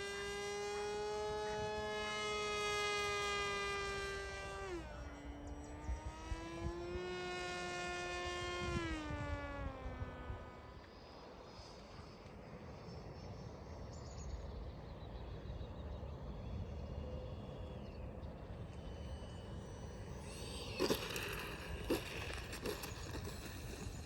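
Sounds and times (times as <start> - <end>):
distant electric motor whine: 0.0 - 24.0.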